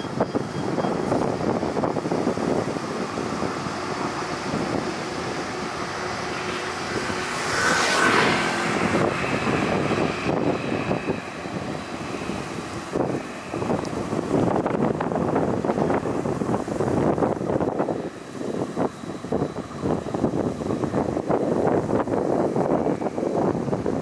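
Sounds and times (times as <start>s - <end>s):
faint steady whines: 0.0s - 24.0s
light rail train running: 0.0s - 24.0s
wind buffeting microphone: 0.0s - 24.0s.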